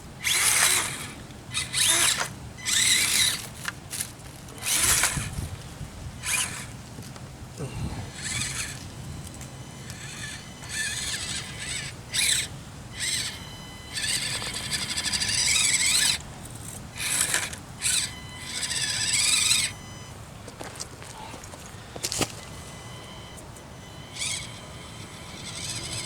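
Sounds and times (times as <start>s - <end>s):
small electric motor whining: 0.1s - 26.0s.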